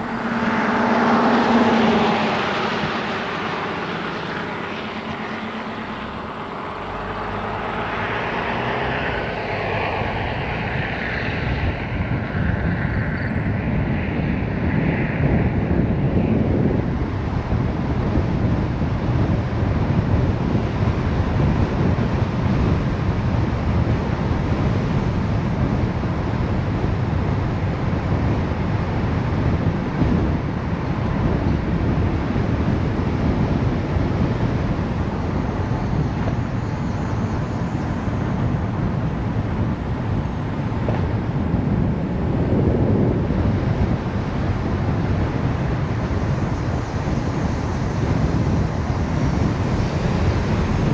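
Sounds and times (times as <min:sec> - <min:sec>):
car road noise: 0:00.0 - 0:50.9.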